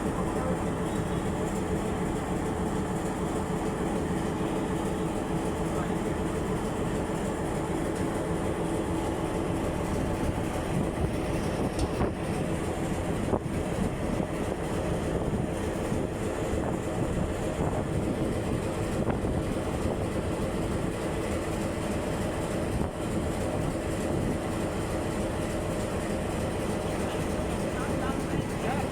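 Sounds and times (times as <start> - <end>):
diesel locomotive engine humming: 0.0 - 28.9.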